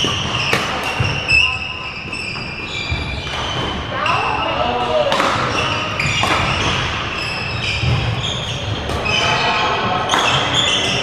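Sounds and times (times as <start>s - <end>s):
shoes squeaking on wooden floor: 0.0s - 4.7s, 5.4s - 11.0s.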